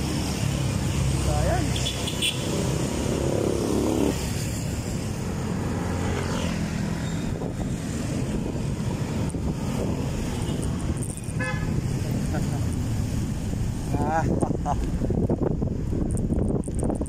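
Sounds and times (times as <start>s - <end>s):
road noise: 0.0s - 17.0s
wind noise: 2.5s - 17.0s.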